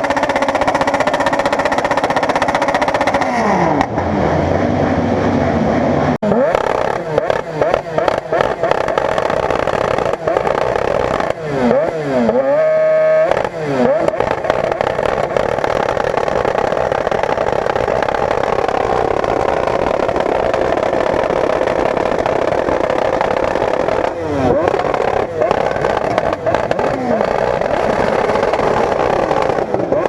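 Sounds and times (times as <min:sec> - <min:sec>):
motorcycle engine revving: 0:00.0 - 0:30.0
running engines din: 0:00.0 - 0:30.0.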